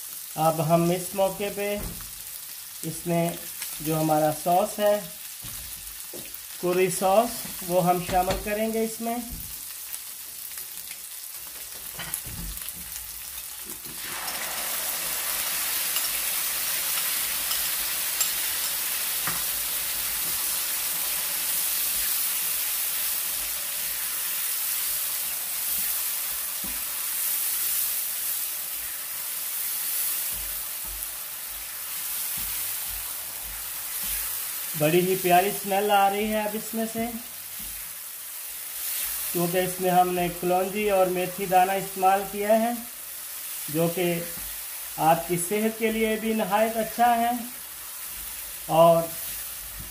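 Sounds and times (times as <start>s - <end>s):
chicken sizzling in oil: 0.0s - 49.9s.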